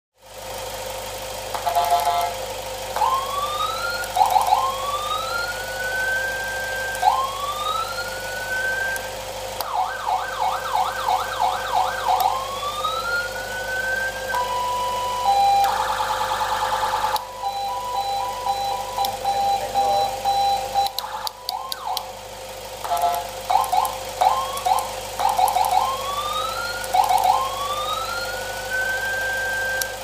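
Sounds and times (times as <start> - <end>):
steady hum: 0.2 - 30.0
electronic siren cycling tones: 1.5 - 22.2, 22.8 - 30.0.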